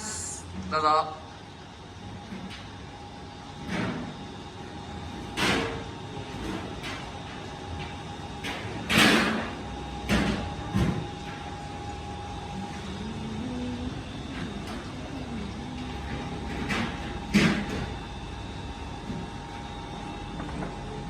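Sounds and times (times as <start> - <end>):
workshop hum: 0.0 - 21.0.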